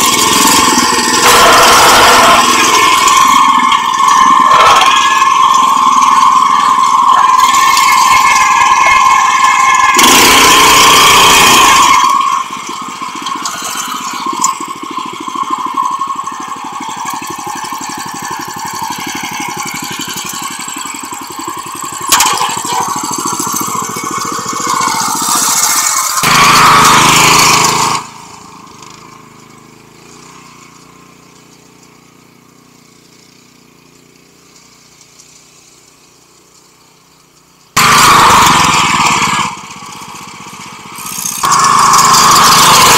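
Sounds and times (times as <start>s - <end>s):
tiller engine chugging and revving: 0.0s - 42.9s.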